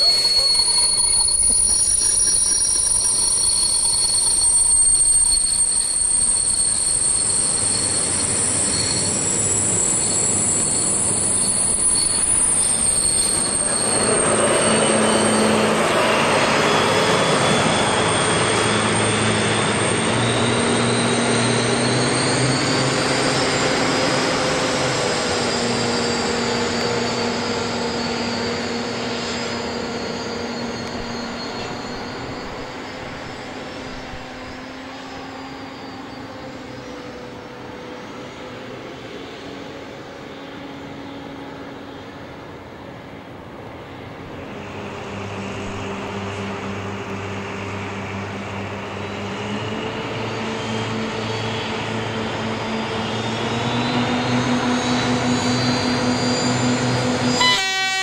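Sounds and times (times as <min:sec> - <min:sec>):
diesel locomotive engine: 0:00.0 - 0:58.0
train wheel squeal: 0:00.0 - 0:58.0.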